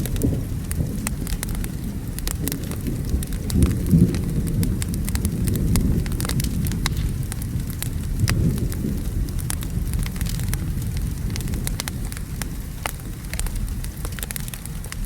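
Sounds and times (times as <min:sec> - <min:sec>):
rolling thunder: 0:00.0 - 0:14.9
rain falling: 0:00.0 - 0:15.0
wood fire crackling: 0:00.0 - 0:15.0.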